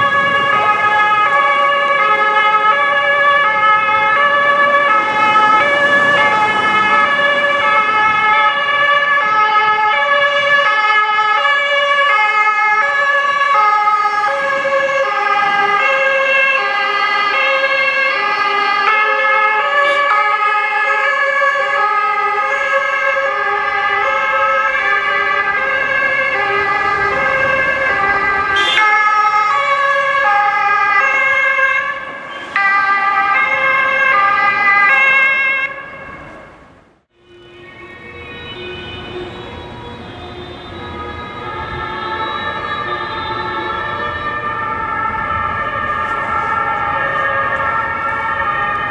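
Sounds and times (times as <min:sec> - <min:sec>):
two-tone police sirens: 0:00.0 - 0:48.9.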